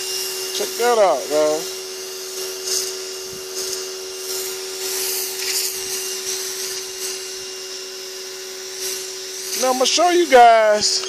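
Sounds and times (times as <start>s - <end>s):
pressure washer motor hum: 0.0s - 11.0s
water jet hissing on glass: 0.0s - 11.0s.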